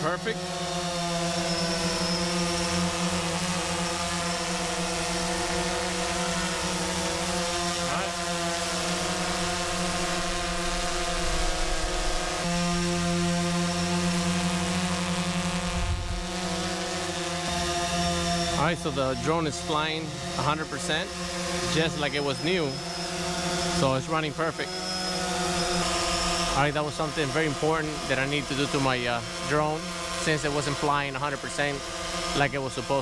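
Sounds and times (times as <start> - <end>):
drone propellers buzzing: 0.0 - 33.0.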